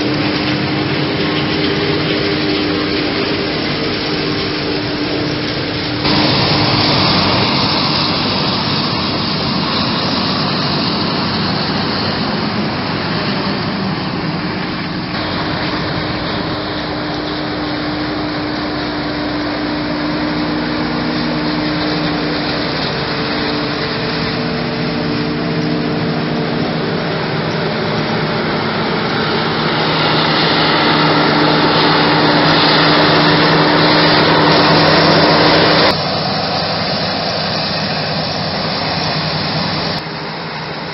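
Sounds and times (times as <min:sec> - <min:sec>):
tractor engine hum: 0:00.0 - 0:40.9.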